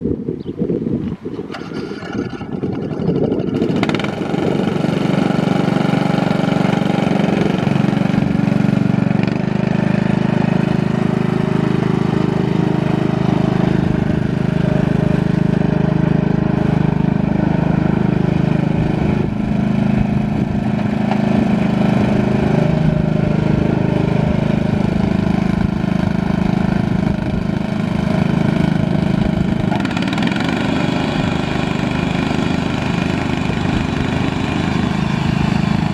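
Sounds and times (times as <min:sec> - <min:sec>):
riding lawn mower engine running: 0:00.0 - 0:35.9.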